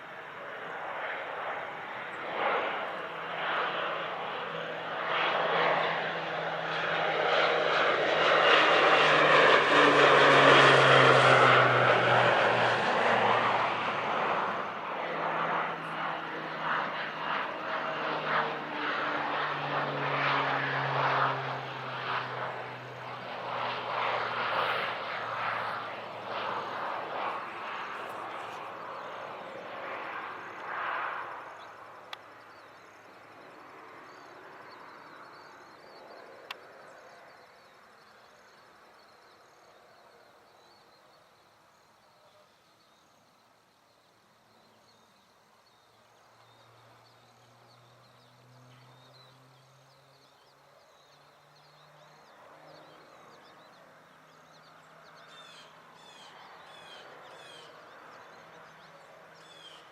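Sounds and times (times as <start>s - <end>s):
airplane engine passing by: 0.0s - 59.9s.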